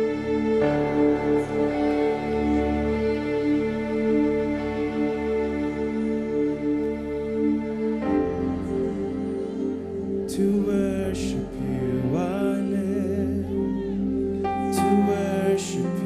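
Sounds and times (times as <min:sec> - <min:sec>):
person singing: 0:00.0 - 0:16.0
slow worship music chords: 0:00.0 - 0:16.0.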